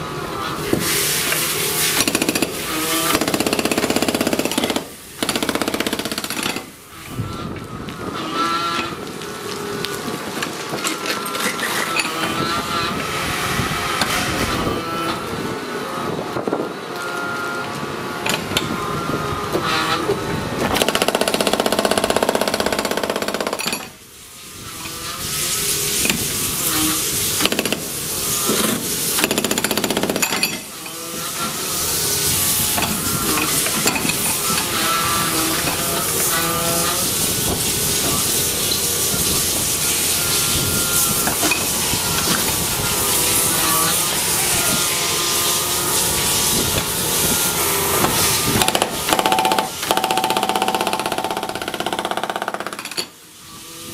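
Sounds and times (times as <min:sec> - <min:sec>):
hydraulic system whine: 0:00.0 - 0:53.9.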